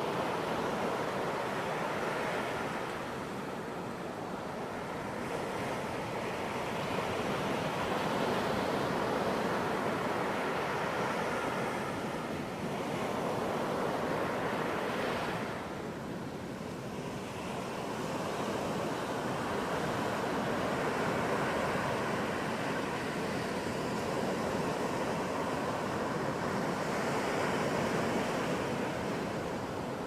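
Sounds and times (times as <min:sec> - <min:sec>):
ocean waves breaking on beach: 0:00.0 - 0:30.0.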